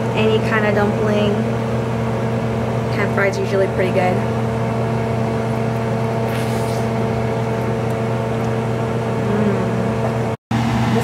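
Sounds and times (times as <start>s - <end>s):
appliance motor humming: 0.0s - 11.0s.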